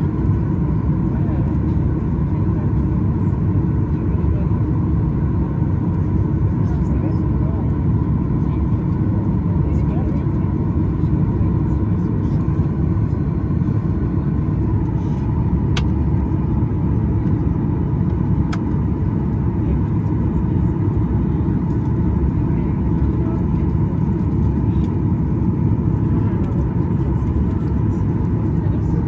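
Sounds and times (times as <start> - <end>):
jet engine and airflow rumble: 0.0 - 29.0.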